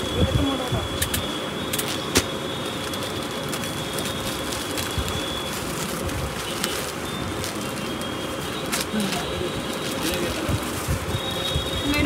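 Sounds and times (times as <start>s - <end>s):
shop background noise: 0.0s - 12.0s.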